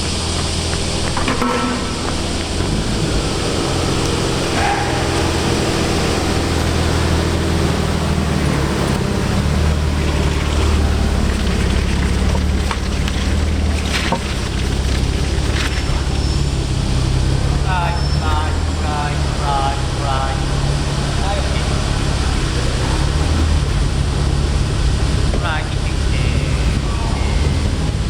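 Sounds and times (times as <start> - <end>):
car engine deep exhaust rumble: 0.0 - 28.0.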